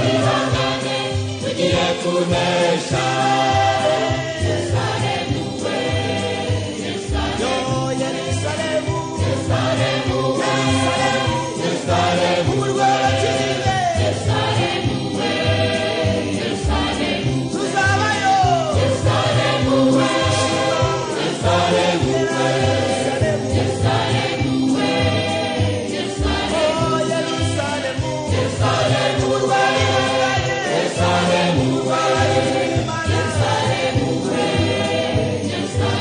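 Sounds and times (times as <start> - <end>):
choir singing gospel: 0.0 - 36.0.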